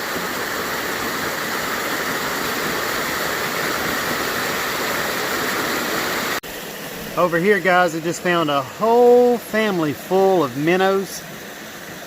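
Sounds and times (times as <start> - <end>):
white water rushing over rocks: 0.0 - 12.0.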